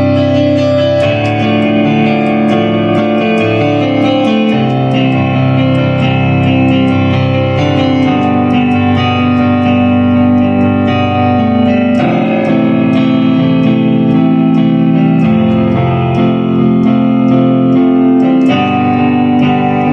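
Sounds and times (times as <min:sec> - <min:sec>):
solo guitar picking: 0:00.0 - 0:19.9.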